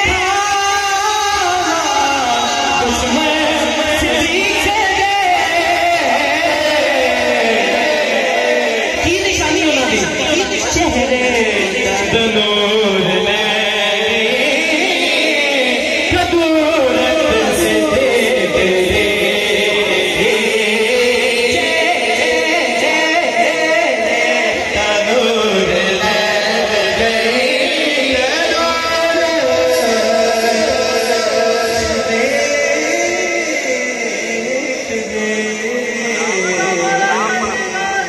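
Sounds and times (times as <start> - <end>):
man singing through loudspeaker: 0.0 - 38.0.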